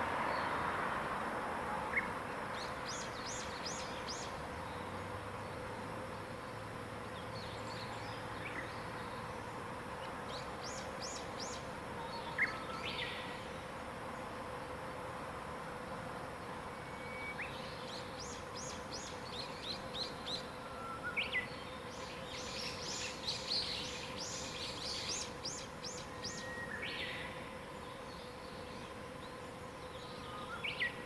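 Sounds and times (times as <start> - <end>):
songbird singing: 0.0 - 0.8, 1.7 - 14.5, 15.8 - 31.0
insect buzzing: 1.9 - 31.0.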